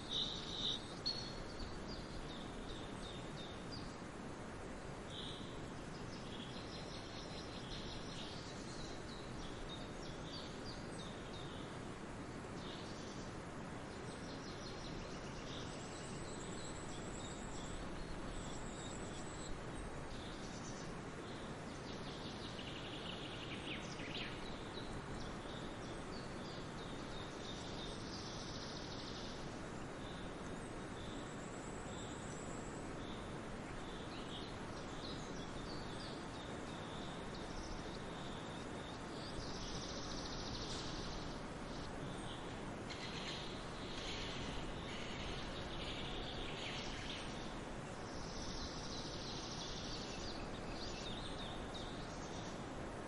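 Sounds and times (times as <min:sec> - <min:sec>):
songbirds chirping: 0:00.0 - 0:53.0
wind: 0:00.0 - 0:53.0.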